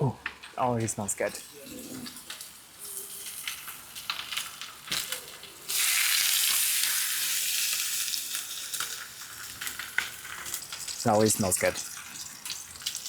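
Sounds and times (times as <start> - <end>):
chicken sizzling in pans: 0.1 - 13.0.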